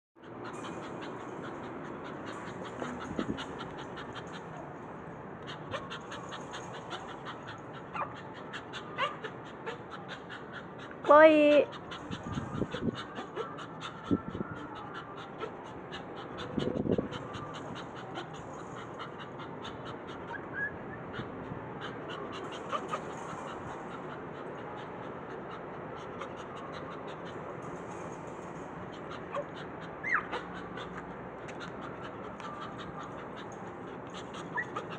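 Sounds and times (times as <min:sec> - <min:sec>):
dog whimpering: 0:00.2 - 0:04.8, 0:05.4 - 0:34.9
small dog panting: 0:00.2 - 0:34.9.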